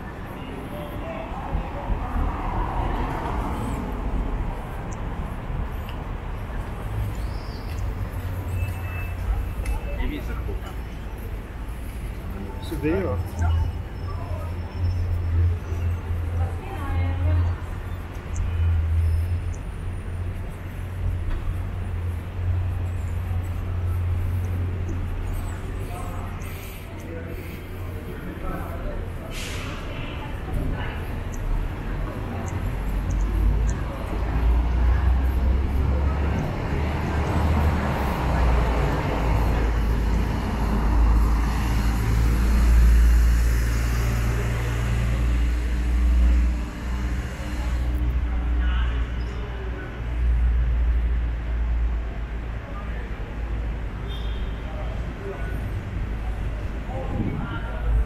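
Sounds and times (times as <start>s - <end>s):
city street low rumble: 0.0s - 58.0s.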